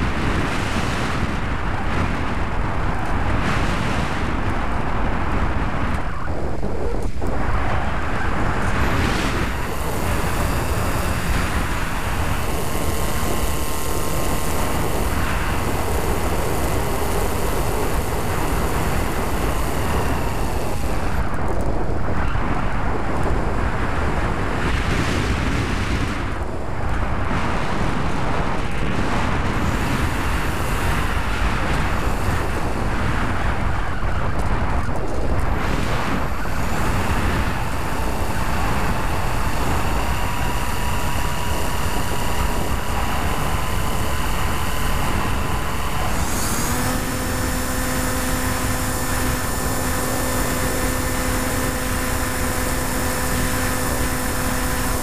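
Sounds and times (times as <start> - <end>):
electric motor and propeller whine: 0.0 - 55.0
wind rushing over camera: 0.0 - 55.0.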